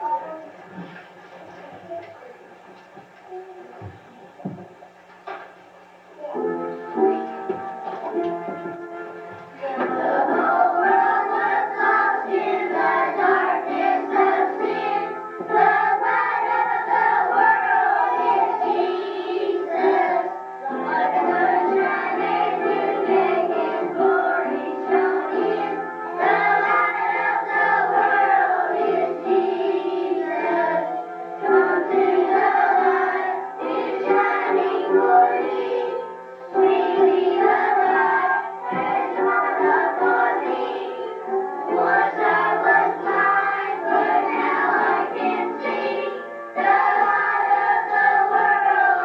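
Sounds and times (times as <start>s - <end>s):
group of voices singing: 9.4s - 49.0s.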